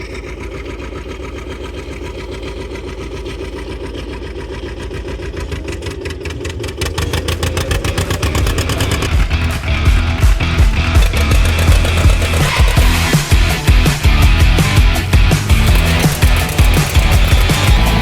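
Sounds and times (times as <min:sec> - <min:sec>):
tractor engine chugging: 0:00.0 - 0:18.0.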